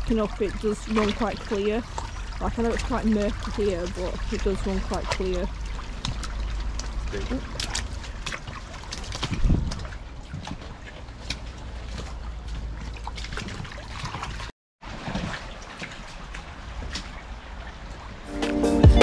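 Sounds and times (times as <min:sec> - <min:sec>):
knocks and splashes: 0:00.0 - 0:18.2
brook water trickling: 0:00.0 - 0:18.4.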